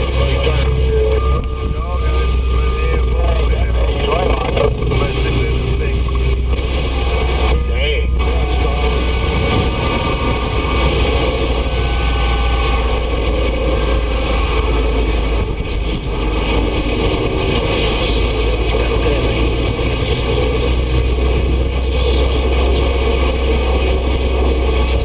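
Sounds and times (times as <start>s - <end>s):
low hum: 0.0s - 25.0s
radio static: 0.0s - 25.0s.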